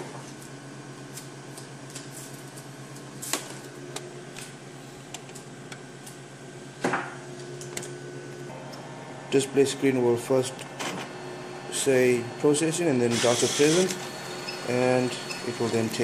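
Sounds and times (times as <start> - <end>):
printer and computer humming: 3.2 - 16.0.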